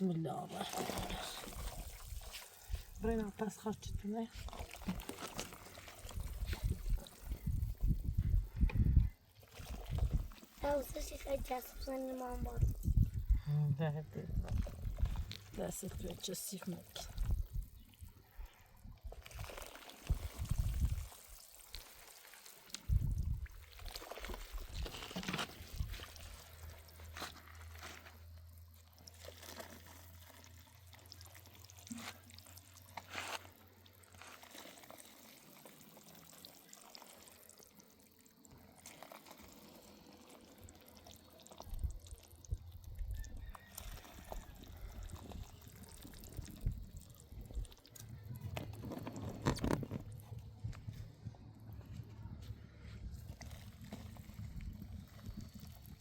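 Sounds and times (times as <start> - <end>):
water running and trickling: 0.1 - 50.7, 53.2 - 56.0.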